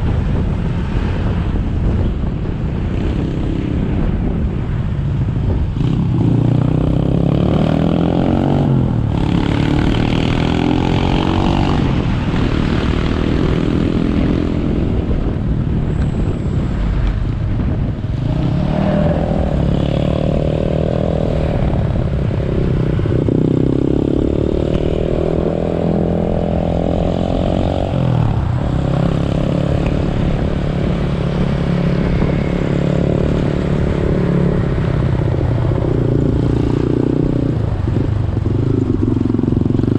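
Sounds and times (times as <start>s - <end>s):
motorcycle engine accelerating: 5.4s - 16.4s, 17.0s - 39.9s.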